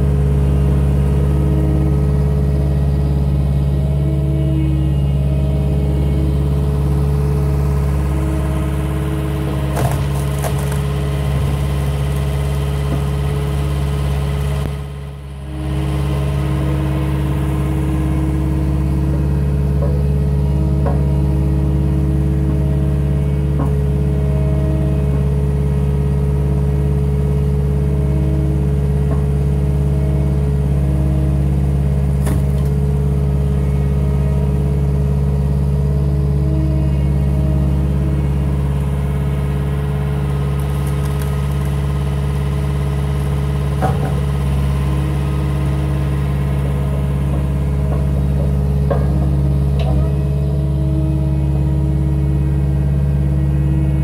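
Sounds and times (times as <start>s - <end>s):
diesel engine running: 0.0s - 54.0s
higher engine tone: 0.0s - 54.0s.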